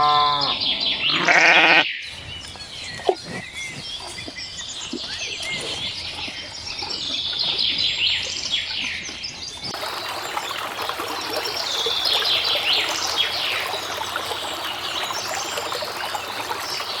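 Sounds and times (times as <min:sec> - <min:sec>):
small birds chirping: 0:00.6 - 0:17.0
water trickling and splashing: 0:02.2 - 0:17.0.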